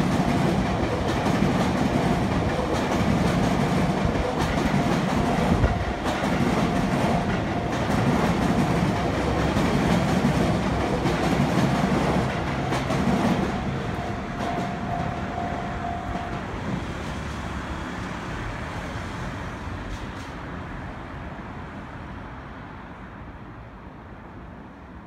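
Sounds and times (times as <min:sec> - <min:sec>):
electric train rumbling past: 0:00.0 - 0:24.9.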